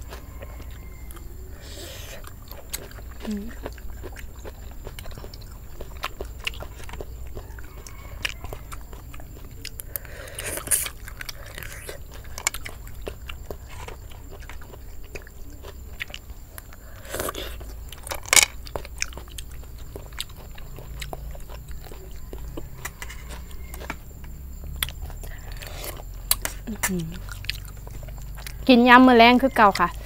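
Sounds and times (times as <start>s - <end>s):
chewing and crunching food: 0.0s - 30.0s.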